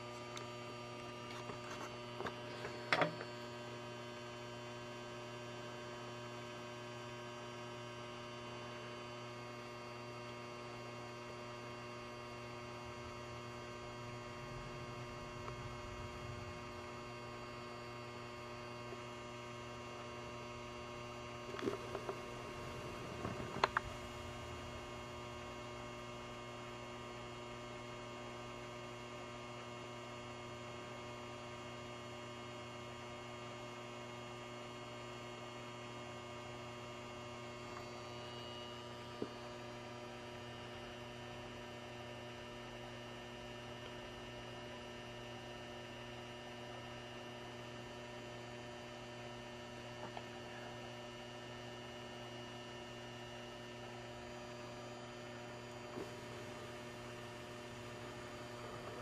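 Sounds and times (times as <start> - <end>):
flood light electrical hum: 0.0 - 59.0.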